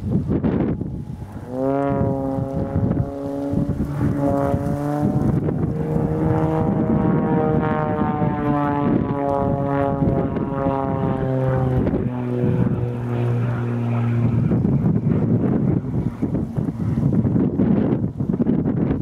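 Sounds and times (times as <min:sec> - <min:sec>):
propeller plane droning overhead: 0:00.0 - 0:19.0.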